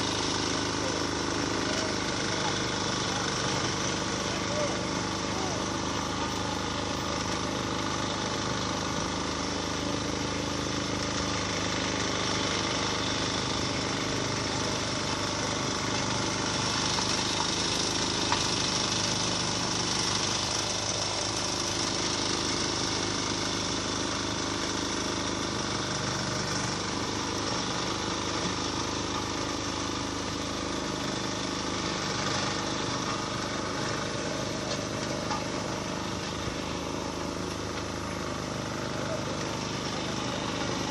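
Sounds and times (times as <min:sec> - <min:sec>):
road repair machine engine: 0:00.0 - 0:40.9.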